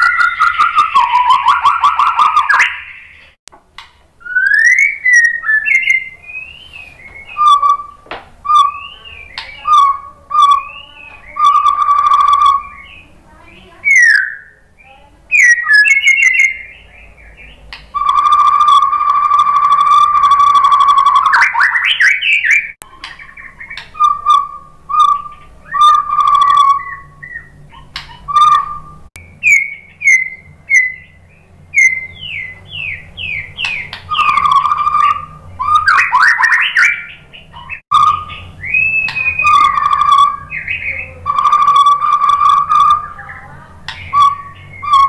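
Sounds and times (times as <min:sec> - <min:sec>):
bird singing whistled phrases: 0:00.0 - 0:03.4, 0:04.2 - 0:45.0.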